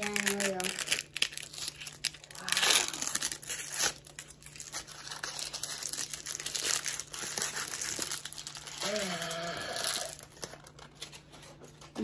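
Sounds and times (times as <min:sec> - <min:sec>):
aluminium foil crinkling and tearing: 0:00.0 - 0:12.0.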